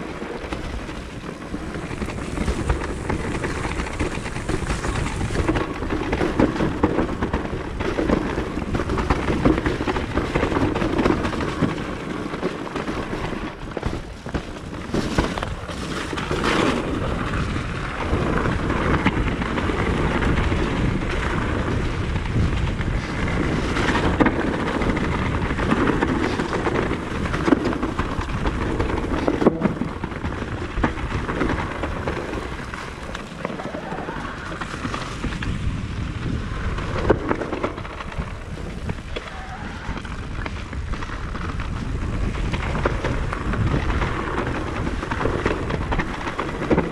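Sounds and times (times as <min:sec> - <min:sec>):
bike knocks and rattles: 0:00.0 - 0:46.9
tyres running over dirt: 0:00.0 - 0:46.9
wind rumbling on microphone: 0:00.0 - 0:46.9.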